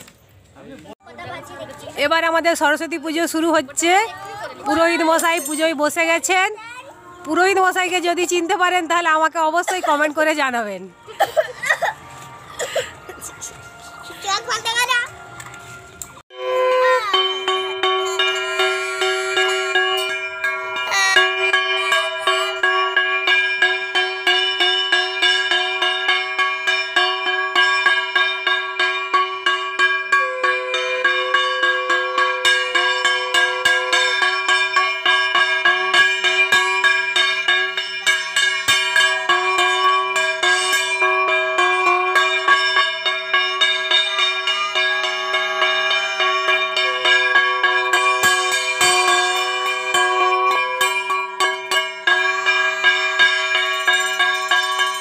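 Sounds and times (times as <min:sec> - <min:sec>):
bells ringing rapidly: 0:01.2 - 0:55.0.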